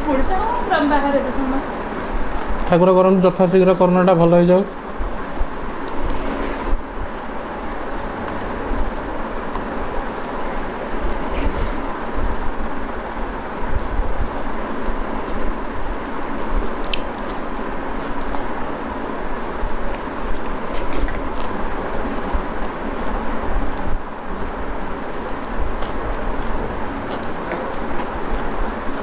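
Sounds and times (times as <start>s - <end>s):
person chewing food: 4.7s - 29.0s.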